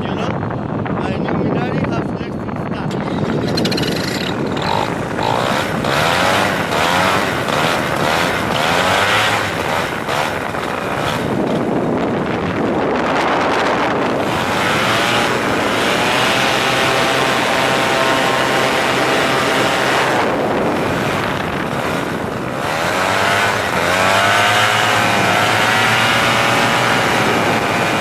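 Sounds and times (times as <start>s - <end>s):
wind noise: 0.0s - 28.0s
vehicle engine revving: 2.8s - 28.0s.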